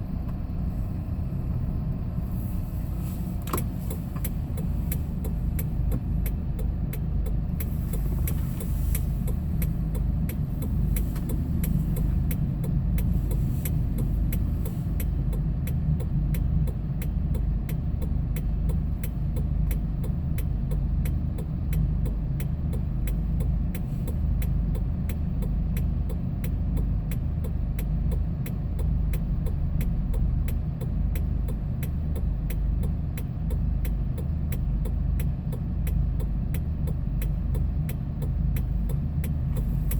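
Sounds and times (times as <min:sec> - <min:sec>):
truck engine and road drone: 0:00.0 - 0:39.9
faint regular ticking: 0:03.5 - 0:39.9.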